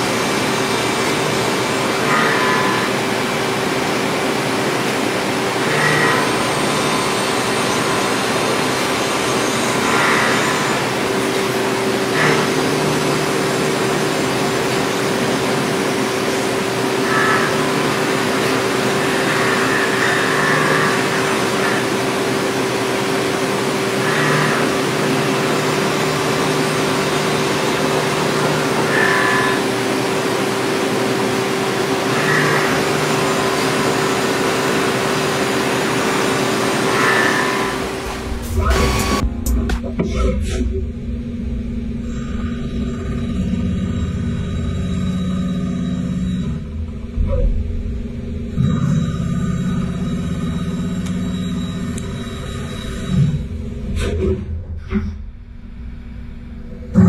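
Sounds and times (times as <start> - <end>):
milling machine spindle whine: 0.0 - 39.4, 41.0 - 54.5.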